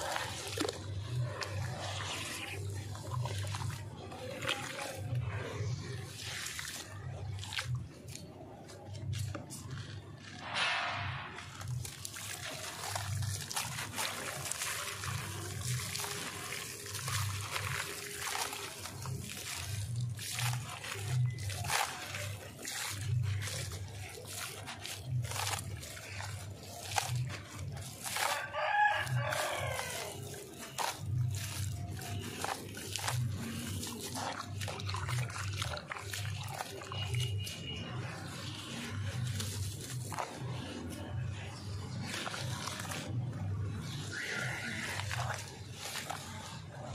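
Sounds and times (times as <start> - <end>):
grit pattering into water: 0.0 - 46.9
wet slurry squelching: 0.0 - 46.9.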